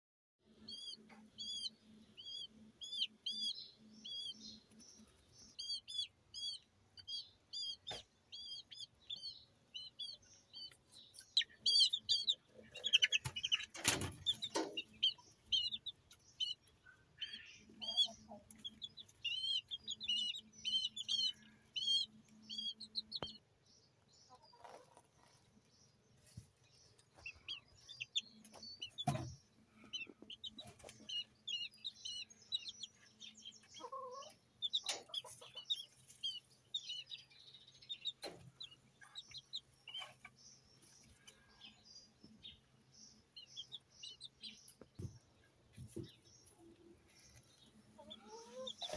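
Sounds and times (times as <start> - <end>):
chicks peeping: 0.5 - 48.9.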